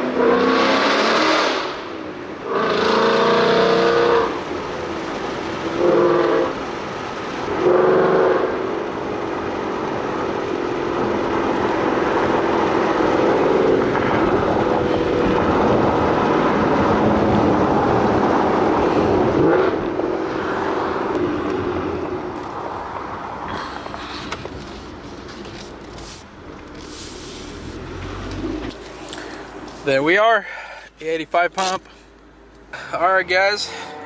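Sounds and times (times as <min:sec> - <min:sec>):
car engine revving: 0:00.0 - 0:29.8
road noise: 0:00.0 - 0:34.0.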